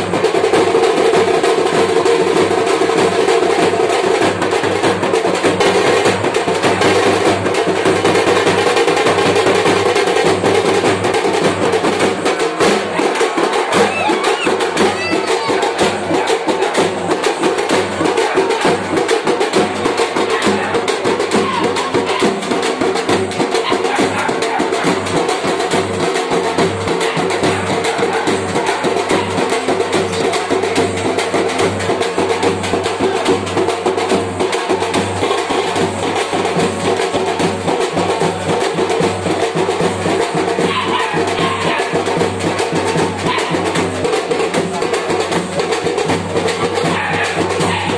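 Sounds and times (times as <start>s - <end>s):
street drum band drumming: 0.0s - 47.9s.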